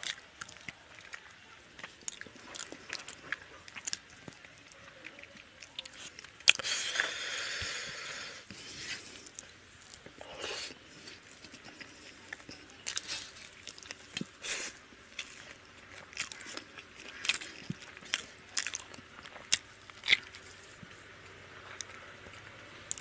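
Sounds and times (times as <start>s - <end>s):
person chewing with wet mouth clicks: 0.0s - 20.9s.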